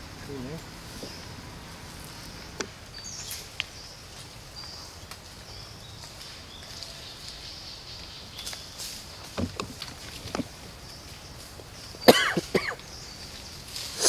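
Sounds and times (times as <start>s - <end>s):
clicks and rustles in dry leaves: 0.0s - 14.0s
low outdoor rumble: 0.0s - 14.0s.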